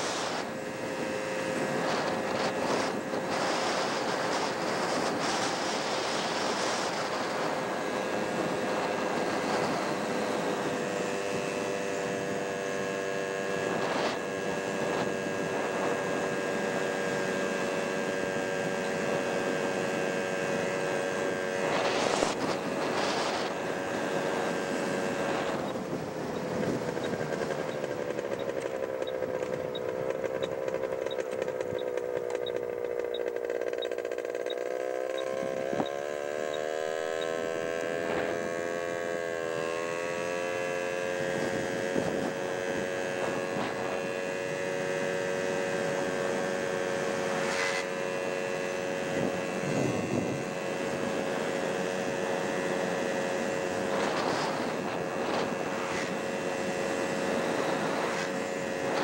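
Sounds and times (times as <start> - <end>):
wind noise: 0.0 - 33.3, 35.2 - 59.0
motorcycle engine running: 0.0 - 59.0.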